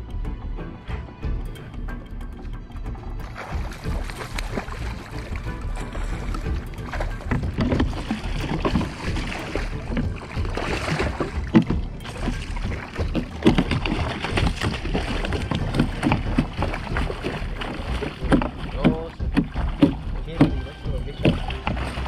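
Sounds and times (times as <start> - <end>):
fish splashing in water: 3.2 - 22.0.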